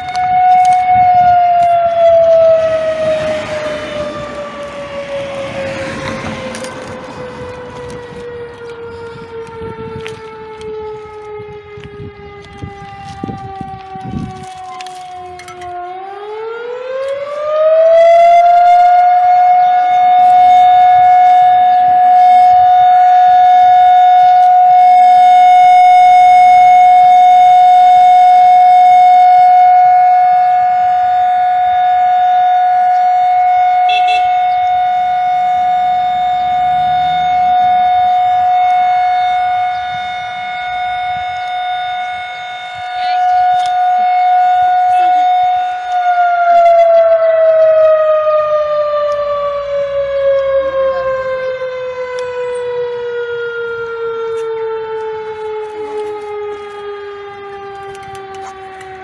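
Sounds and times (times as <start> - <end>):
rotary motor siren winding up: 0.0 - 59.0.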